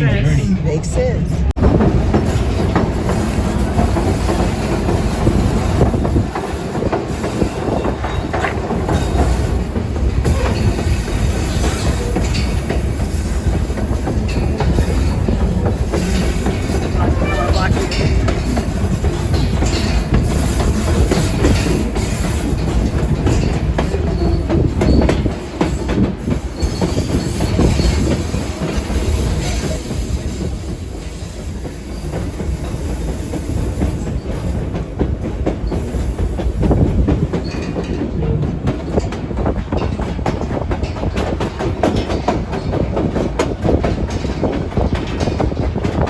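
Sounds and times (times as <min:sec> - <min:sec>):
train rolling on track: 0:00.0 - 0:46.0
wheels clicking over rail joints: 0:02.1 - 0:46.0.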